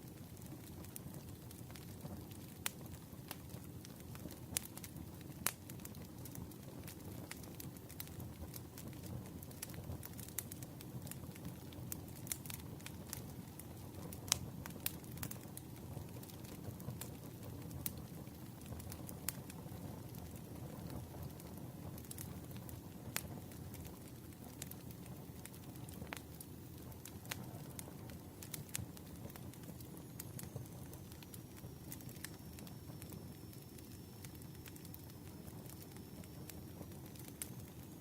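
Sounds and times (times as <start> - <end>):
campfire crackling: 0.0 - 38.0
burning wood pops and snaps: 0.2 - 19.5, 22.0 - 38.0.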